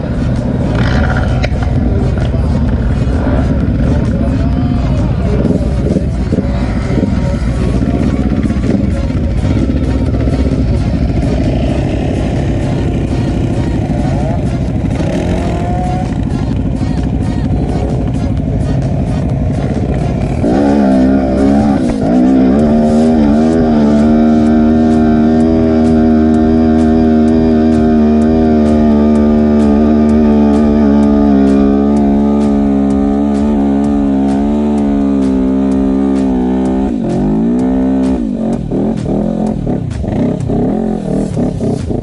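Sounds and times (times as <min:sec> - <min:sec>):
engine revs rising: 0:00.0 - 0:16.2, 0:19.9 - 0:42.0
quad bike engines idling: 0:00.0 - 0:42.0.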